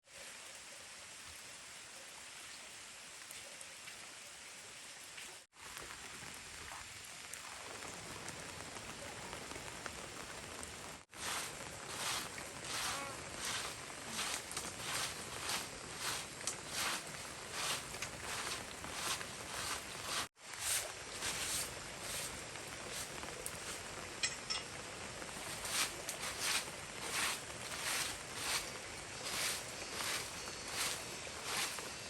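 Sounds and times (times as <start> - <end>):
rain hissing: 0.0 - 32.0.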